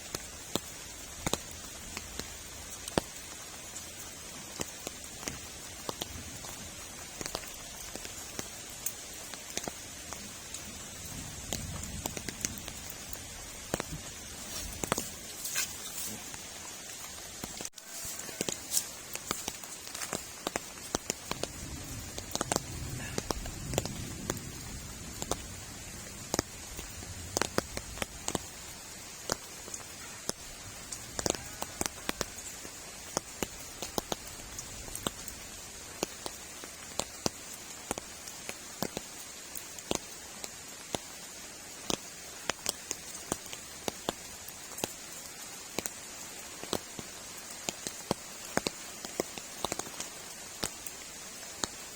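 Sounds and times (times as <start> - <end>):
rain hissing: 0.0 - 51.9
raindrops ticking on a shelter: 0.0 - 51.9.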